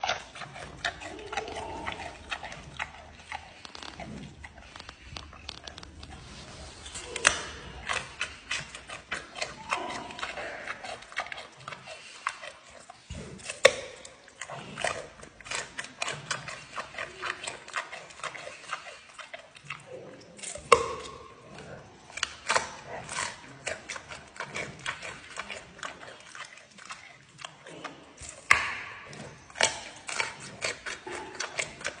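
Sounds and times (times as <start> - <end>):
animal crunching carrot: 0.0 - 32.0.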